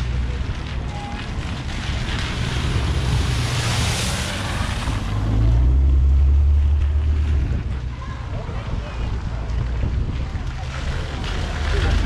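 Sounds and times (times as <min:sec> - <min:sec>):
low rumble: 0:00.0 - 0:12.0
tyres splashing through water: 0:00.0 - 0:12.0.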